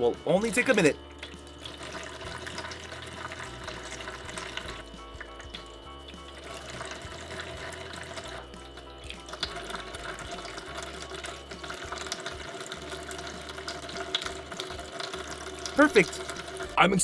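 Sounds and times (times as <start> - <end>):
soft background music: 0.0 - 17.0
water running from toy faucet: 0.0 - 17.0
small splashes and clicks: 0.6 - 16.7.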